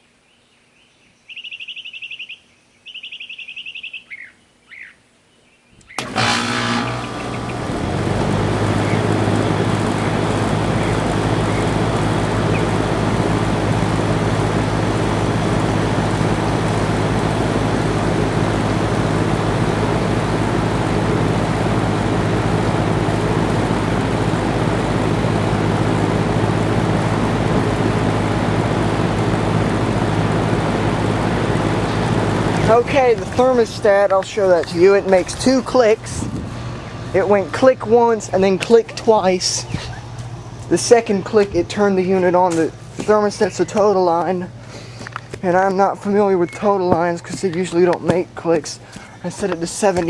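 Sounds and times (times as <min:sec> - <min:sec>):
compressor hum: 0:05.8 - 0:50.0
condenser fan rushing: 0:05.8 - 0:50.0.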